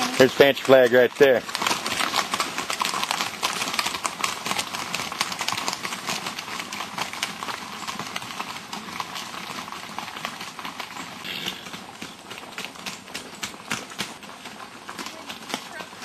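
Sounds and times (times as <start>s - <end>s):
horse hooves on hard surface: 0.0s - 16.0s.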